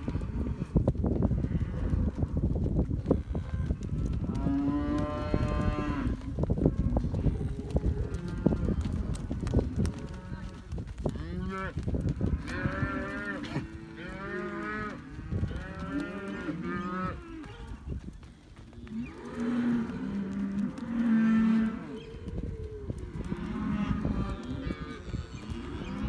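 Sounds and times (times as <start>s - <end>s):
cows and calves mooing: 0.0s - 0.8s, 1.4s - 2.3s, 3.1s - 17.9s, 18.8s - 26.0s.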